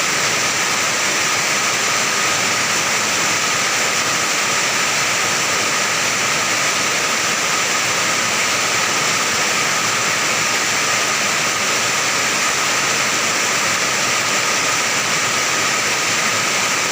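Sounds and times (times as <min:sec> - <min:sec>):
heavy rain on metal roof: 0:00.0 - 0:16.9.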